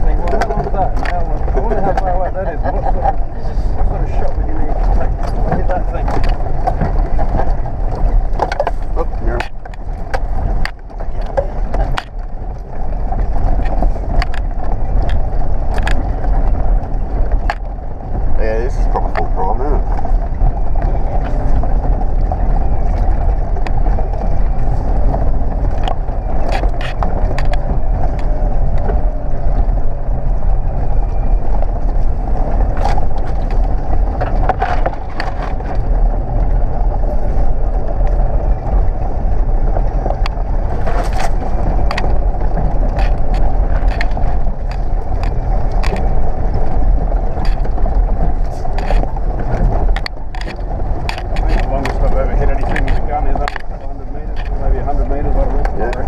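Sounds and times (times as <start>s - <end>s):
low engine drone: 0.0s - 56.0s
vehicle knocks and rattles: 0.0s - 56.0s.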